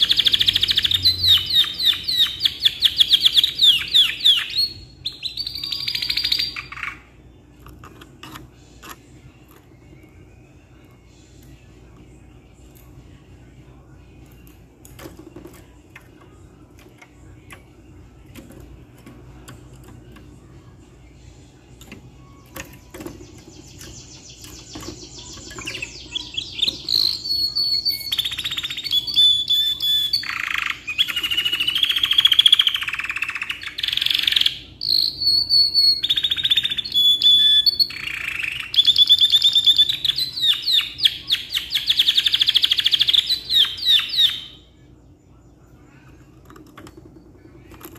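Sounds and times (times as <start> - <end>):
canary singing trills: 0.0 - 13.1, 21.3 - 47.9.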